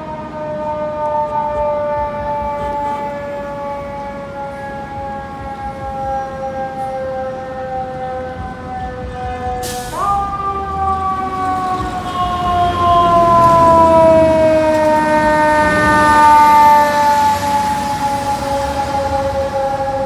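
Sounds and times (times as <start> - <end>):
fire engine siren: 0.0 - 20.0.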